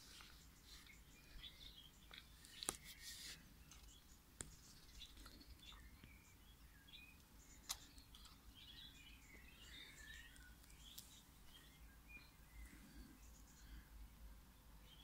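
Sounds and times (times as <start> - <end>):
high bird chirps: 0.1 - 13.7.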